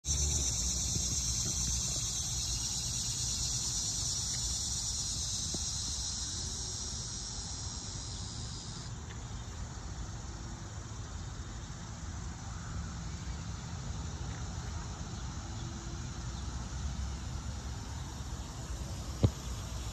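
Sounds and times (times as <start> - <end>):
high-pitched insect chorus: 0.0 - 19.9.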